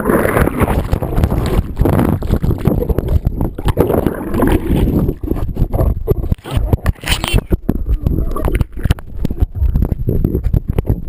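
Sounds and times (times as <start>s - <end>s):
water churning underwater: 0.0s - 11.0s.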